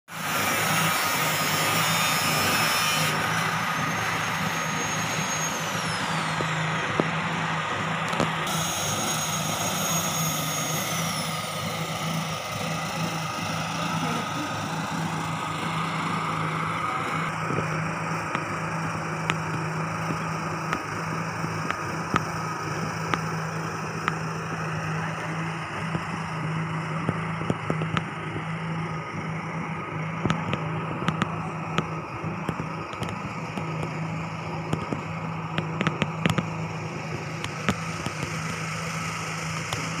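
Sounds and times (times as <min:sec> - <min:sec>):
low engine hum: 0:00.0 - 0:40.0.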